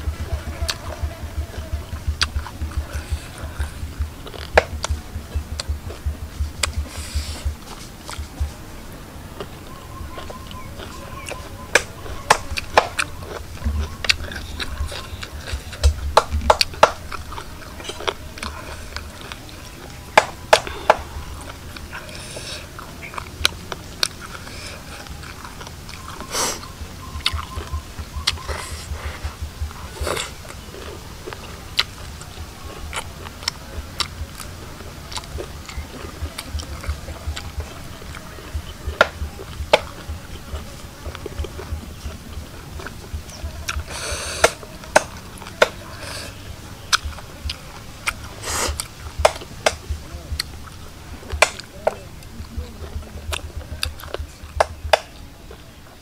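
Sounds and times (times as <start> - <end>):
person chewing crisply: 0.0 - 55.6.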